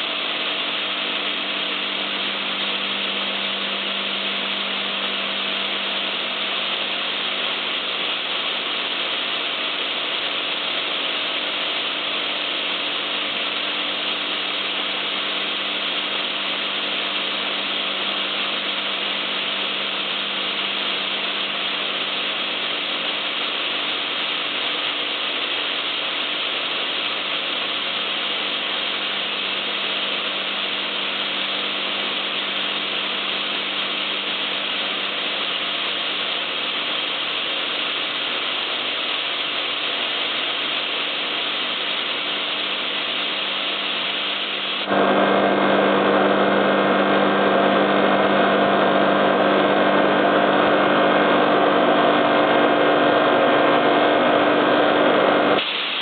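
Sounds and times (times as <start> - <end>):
air compressor humming: 0.0 - 56.0.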